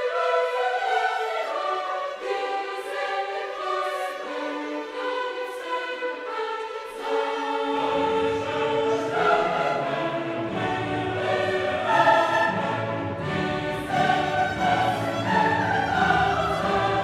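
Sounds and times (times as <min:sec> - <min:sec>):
choir singing operatic style: 0:00.0 - 0:17.0.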